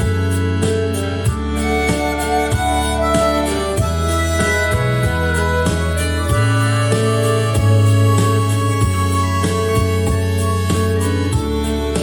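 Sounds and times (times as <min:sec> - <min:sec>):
instrumental rock music: 0:00.0 - 0:12.0.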